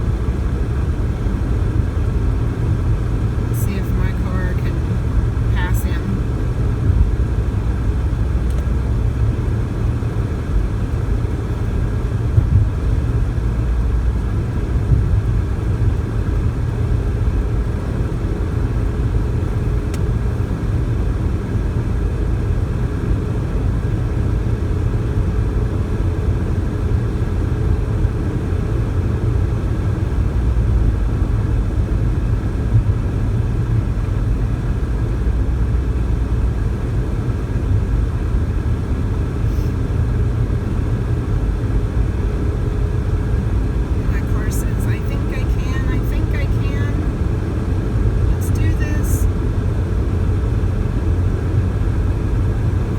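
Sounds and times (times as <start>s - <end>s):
faint steady hum: 0.0s - 22.6s, 23.3s - 52.9s
car road noise rumble: 0.0s - 52.9s.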